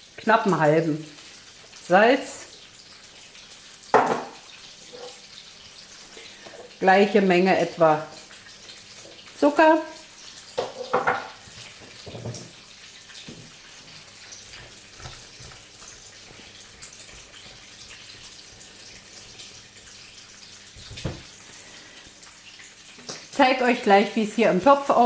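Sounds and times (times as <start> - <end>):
water bubbling in a pot: 0.0 - 25.0.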